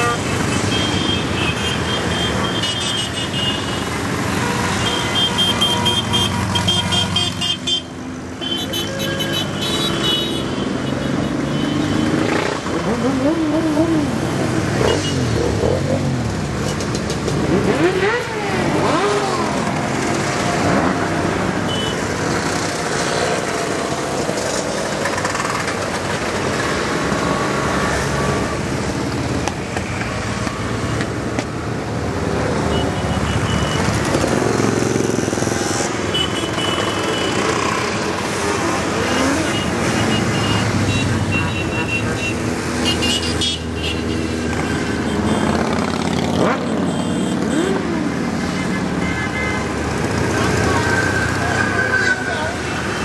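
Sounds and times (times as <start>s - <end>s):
motorcycles riding past: 10.0s - 53.0s.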